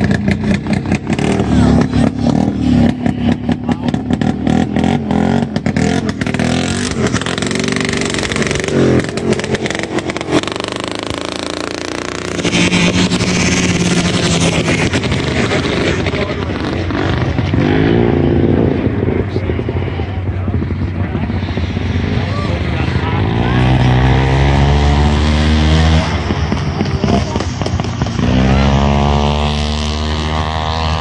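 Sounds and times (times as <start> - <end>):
snowmobile engines running: 0.0 - 31.0.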